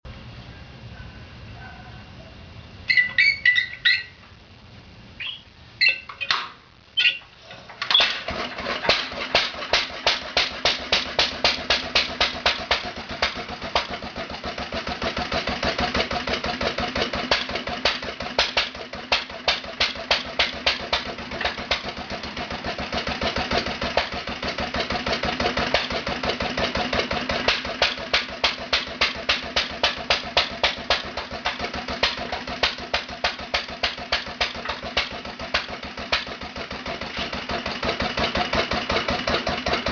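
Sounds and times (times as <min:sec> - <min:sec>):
flywheel clattering and clicks: 0:07.5 - 0:39.9
single-cylinder engine running: 0:07.5 - 0:39.9.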